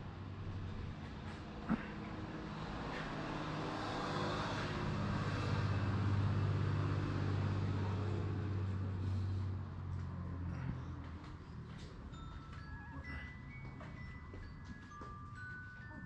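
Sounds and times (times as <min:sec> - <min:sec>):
vehicle engine passing by: 0:00.0 - 0:15.9.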